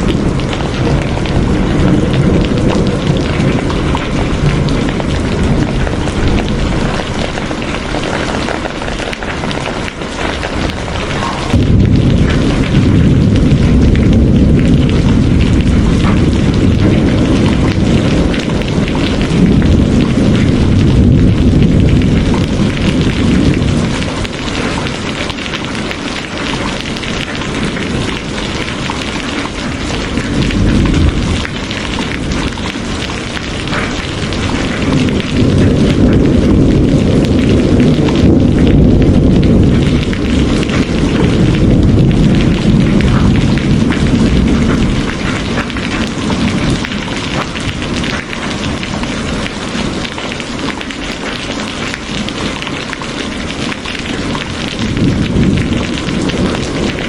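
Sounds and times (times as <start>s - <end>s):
heavy rain hissing: 0.0s - 57.0s
rolling thunder rumble: 0.0s - 57.0s.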